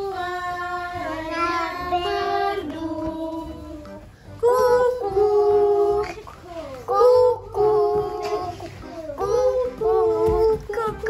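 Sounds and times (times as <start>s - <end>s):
child singing long notes: 0.9s - 11.0s.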